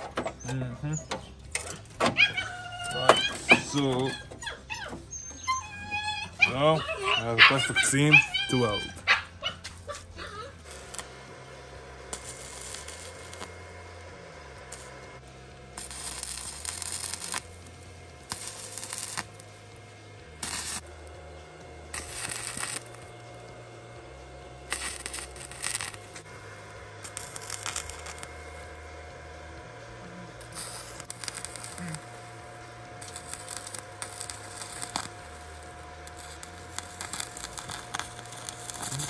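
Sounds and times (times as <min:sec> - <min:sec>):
arc welder crackling: 0:00.0 - 0:39.0.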